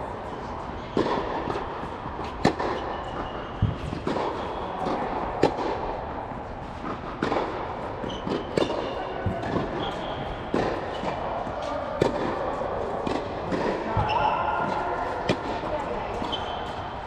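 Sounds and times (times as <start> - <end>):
tennis balls struck with rackets: 0.3 - 17.0.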